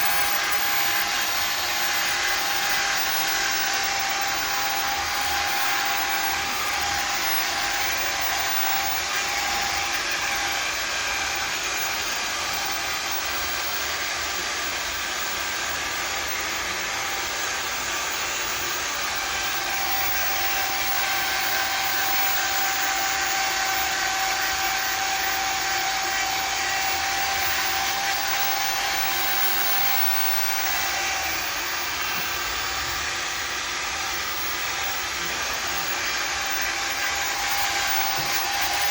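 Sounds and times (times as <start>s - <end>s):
power tool whirring: 0.0s - 38.9s.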